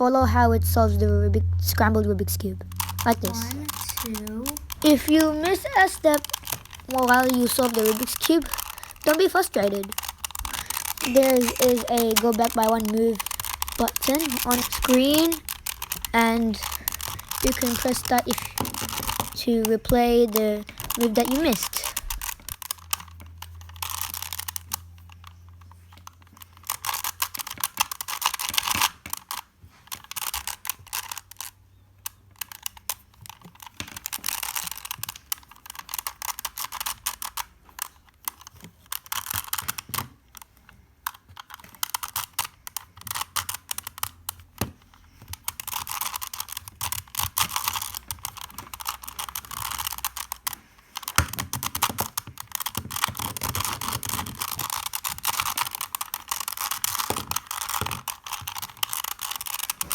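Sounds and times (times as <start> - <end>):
puzzle cube clicking and rattling: 0.0 - 59.9.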